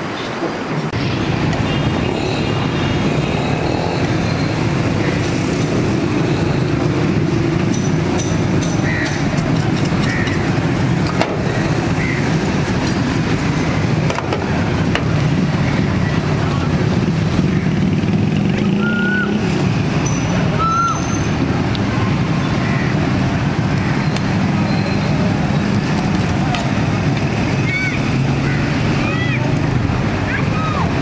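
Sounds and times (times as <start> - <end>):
traffic hum: 0.0 - 31.0.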